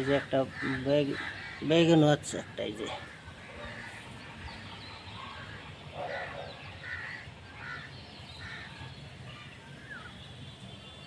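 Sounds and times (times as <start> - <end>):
crows cawing: 0.0 - 9.5.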